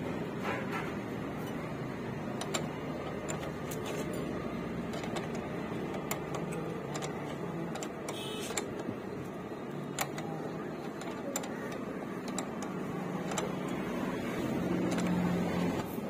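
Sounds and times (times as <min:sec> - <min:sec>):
steady background hum: 0:00.0 - 0:16.0
spanner clicking on metal: 0:01.4 - 0:16.0.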